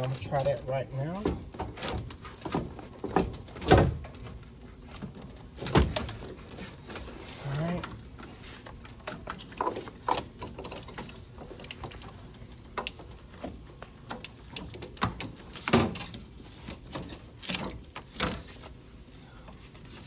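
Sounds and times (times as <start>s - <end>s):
radiator clicks knocks and scraping: 0.0s - 20.0s.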